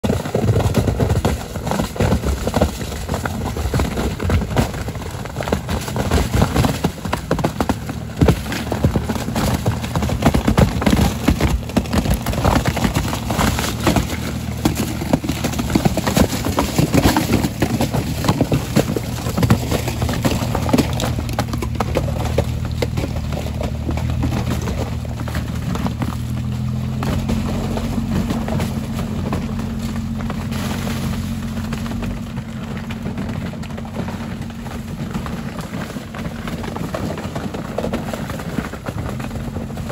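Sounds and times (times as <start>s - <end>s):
engine running at low revs: 0.0s - 39.9s
ice cracking and crunching: 0.0s - 39.9s.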